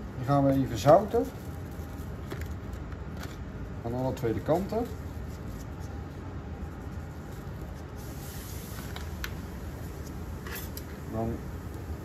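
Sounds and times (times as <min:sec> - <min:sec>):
kitchen background hum: 0:00.0 - 0:12.0.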